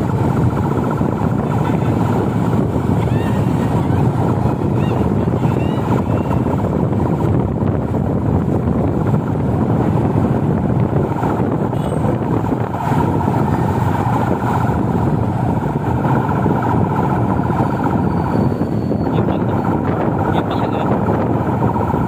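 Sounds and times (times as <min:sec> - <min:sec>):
engine and traffic noise: 0:00.0 - 0:22.0
wind on microphone: 0:00.0 - 0:22.0.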